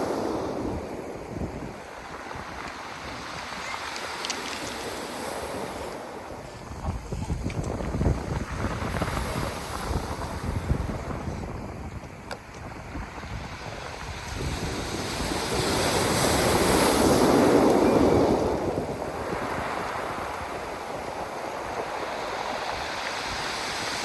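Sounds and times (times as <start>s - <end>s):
waves breaking on pebbles: 0.0s - 11.2s, 12.4s - 24.0s.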